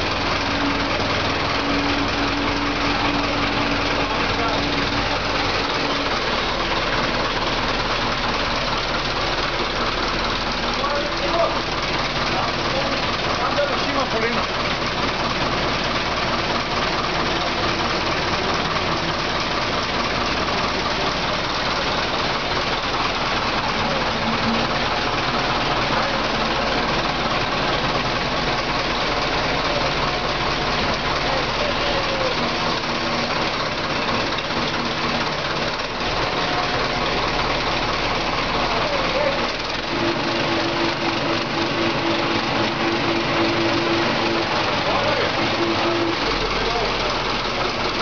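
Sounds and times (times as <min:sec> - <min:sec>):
forklift engine running: 0:00.0 - 0:48.0.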